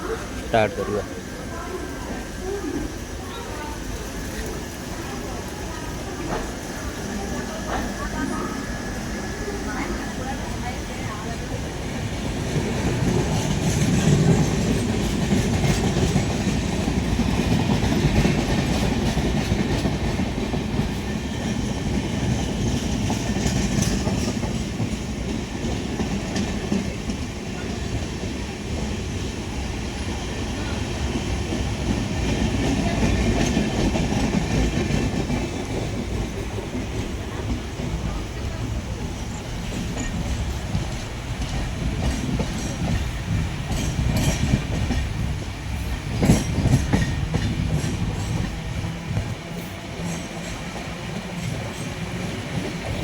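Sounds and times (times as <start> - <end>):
train coach rumble: 0.0 - 53.0
train wheels clattering on rails: 0.0 - 53.0.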